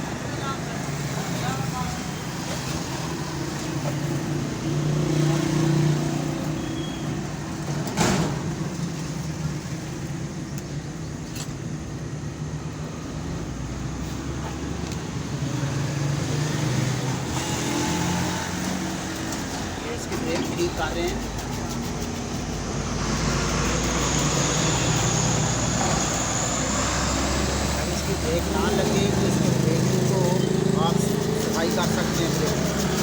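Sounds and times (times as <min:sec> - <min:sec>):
traffic passing: 0:00.0 - 0:33.0.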